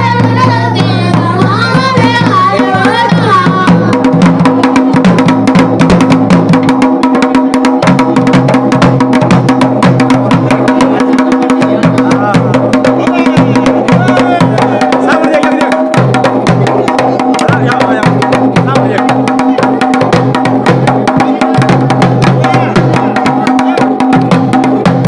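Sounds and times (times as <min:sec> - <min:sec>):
dhol drumming fast strokes: 0:00.0 - 0:25.0.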